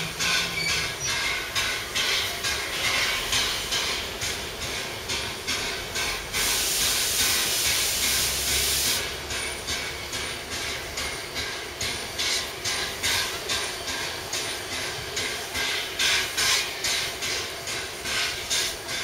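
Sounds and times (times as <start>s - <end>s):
steam hissing: 0.0s - 19.0s
train wheels clicking: 0.0s - 19.0s.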